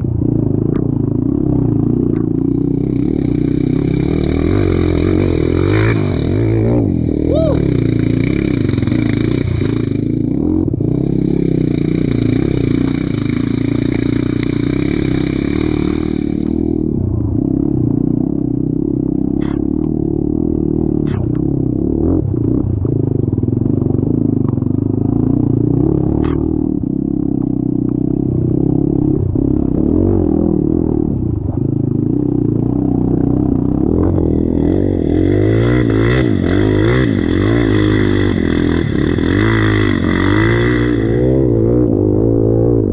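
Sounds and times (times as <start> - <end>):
vehicle engine revving: 0.0 - 42.9.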